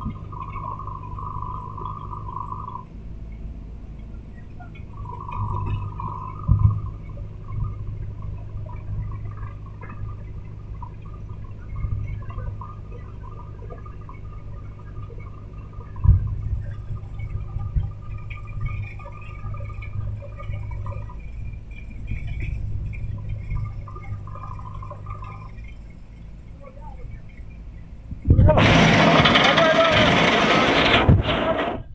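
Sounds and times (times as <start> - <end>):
engine running with low hum: 0.0 - 31.9.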